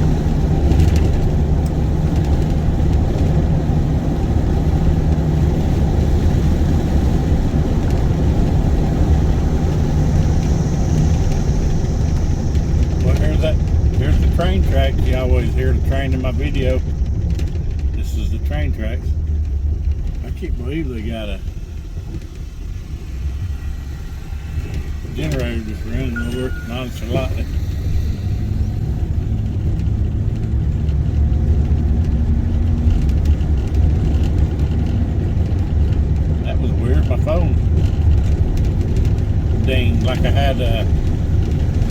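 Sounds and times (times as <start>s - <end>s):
car engine rumble: 0.0s - 41.9s
tyres on the road: 0.0s - 41.9s.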